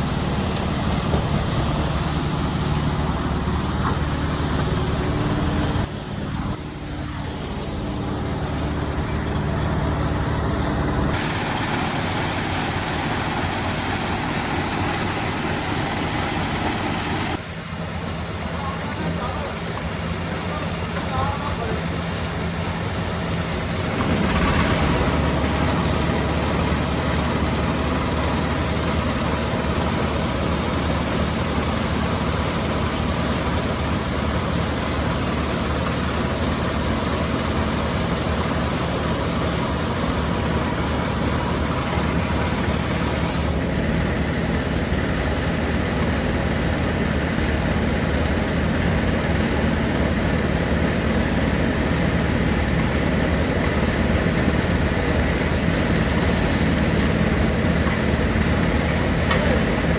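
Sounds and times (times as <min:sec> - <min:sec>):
stone crushing machinery running: 0:00.0 - 0:59.9.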